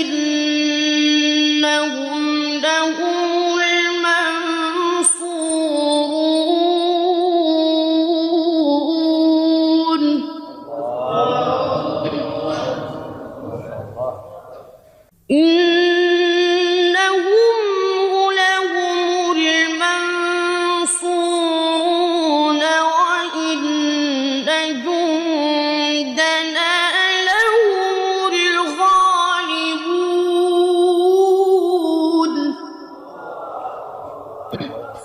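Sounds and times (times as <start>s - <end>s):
man reciting melodically: 0.0s - 35.0s.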